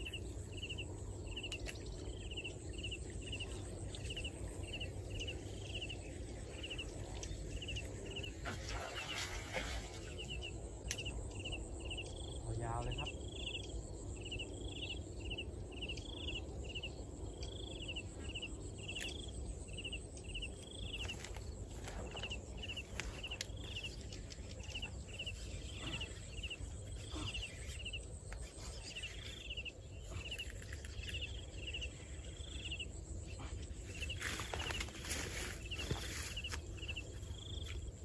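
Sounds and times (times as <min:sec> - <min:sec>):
insect chirping: 0:00.0 - 0:38.0.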